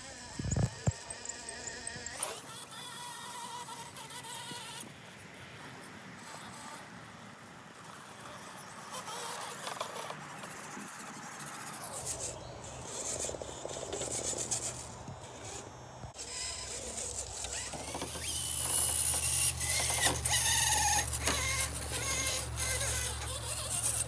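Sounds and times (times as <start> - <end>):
electric motors whining: 0.0 - 4.9, 7.8 - 24.0.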